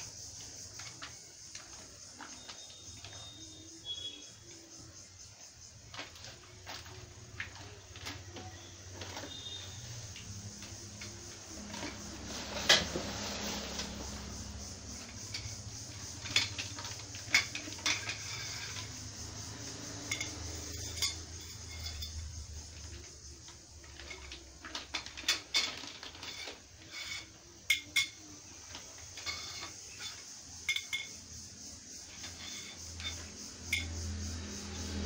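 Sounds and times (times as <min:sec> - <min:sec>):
metal tubes clinking on tiled floor: 0:00.0 - 0:04.9, 0:05.6 - 0:34.2.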